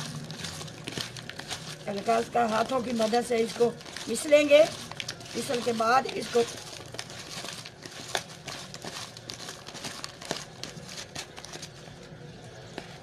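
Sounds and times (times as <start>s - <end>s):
vegetable pieces rustling in plastic bowl: 0.0s - 11.8s.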